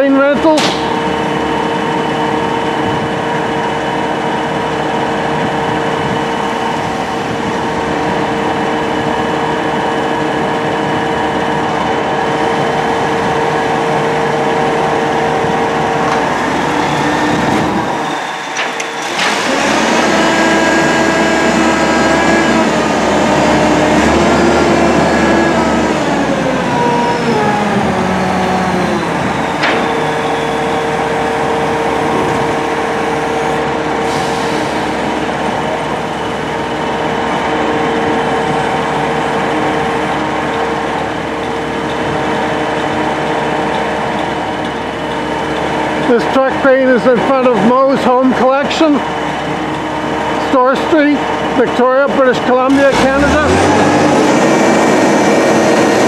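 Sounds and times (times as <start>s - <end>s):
truck crane engine whining: 0.0s - 56.0s.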